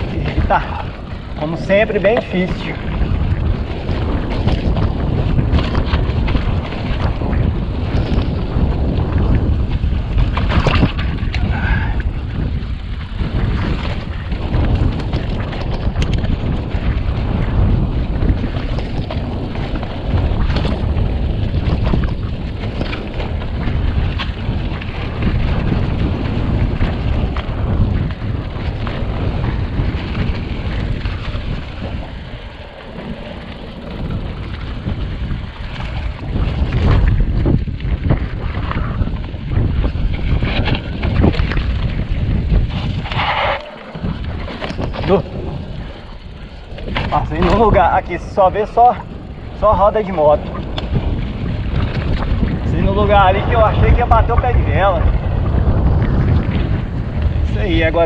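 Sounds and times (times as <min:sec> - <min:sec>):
bike rattling over bumps: 0:00.0 - 0:58.0
wind buffeting microphone: 0:00.0 - 0:58.0.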